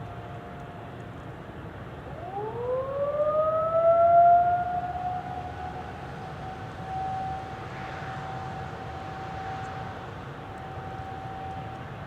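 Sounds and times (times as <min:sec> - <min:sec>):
faint steady siren tone: 0:00.0 - 0:12.0.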